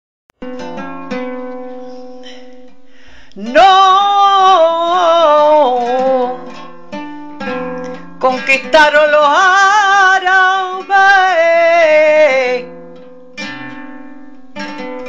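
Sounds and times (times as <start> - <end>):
acoustic guitar plucking: 0.4 - 15.0.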